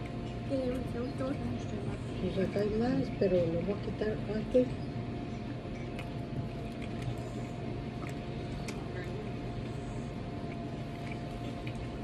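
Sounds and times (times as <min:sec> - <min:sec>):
restaurant room hum: 0:00.0 - 0:12.0.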